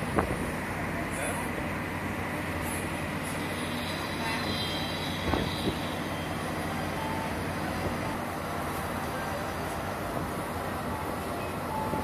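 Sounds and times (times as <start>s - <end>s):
broad rush of noise: 0.0s - 12.0s.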